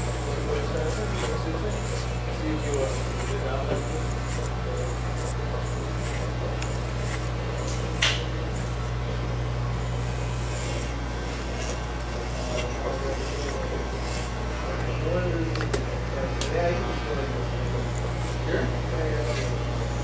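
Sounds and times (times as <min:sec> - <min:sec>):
blades rustling in hair: 0:00.0 - 0:15.2, 0:16.5 - 0:20.0
hair clippers buzzing: 0:00.0 - 0:20.0.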